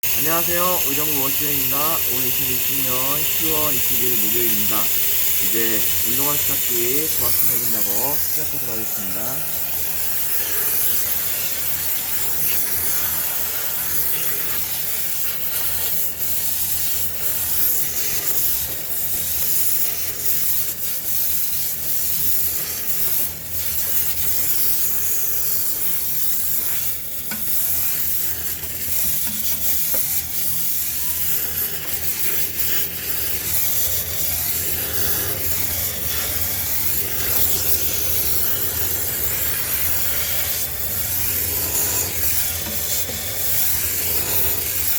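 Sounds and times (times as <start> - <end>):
high-pressure spray hissing: 0.0 - 44.9.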